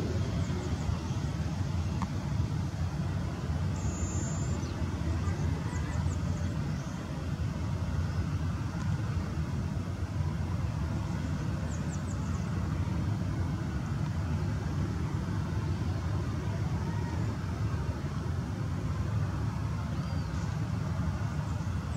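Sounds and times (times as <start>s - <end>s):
airliner low rumble: 0.0s - 21.9s.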